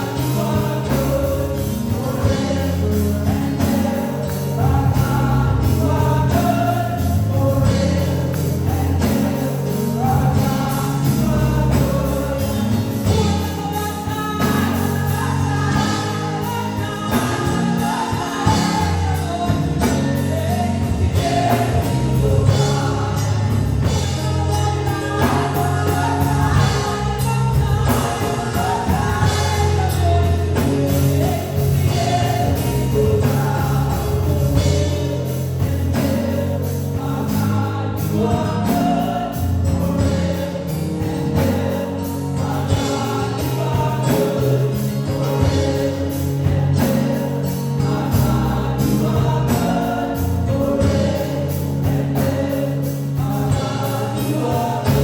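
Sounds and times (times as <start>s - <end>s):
bass line: 0.0s - 55.0s
congregation singing gospel: 0.0s - 55.0s.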